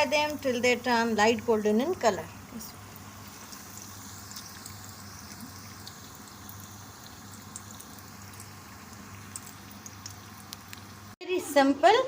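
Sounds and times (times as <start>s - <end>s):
cutlets sizzling in oil: 0.0s - 11.2s.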